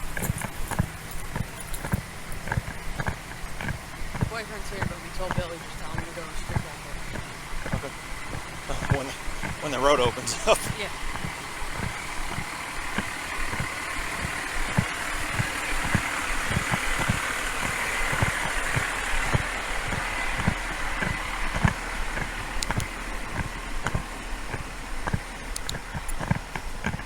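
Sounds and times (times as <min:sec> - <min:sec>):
vehicle engine idling: 0:00.0 - 0:27.0
footsteps thumping: 0:00.1 - 0:27.0.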